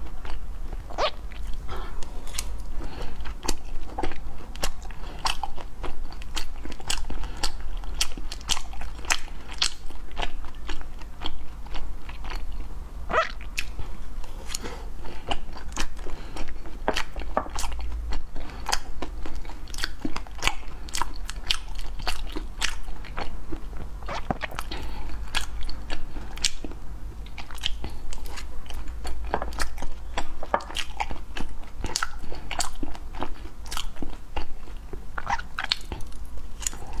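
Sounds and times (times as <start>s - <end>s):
chewing and mouth smacks: 0.0s - 37.0s
steady low hum: 0.0s - 37.0s.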